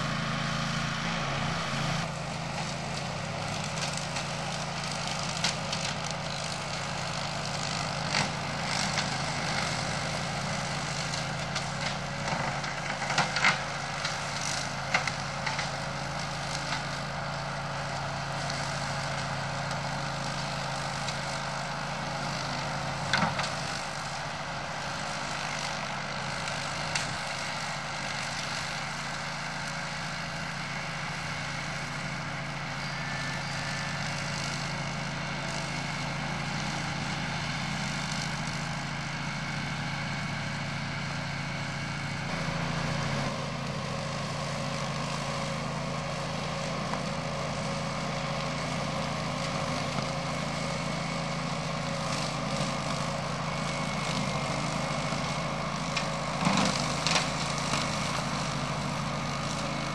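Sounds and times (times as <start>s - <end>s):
ride-on mower engine running: 0.0s - 59.9s.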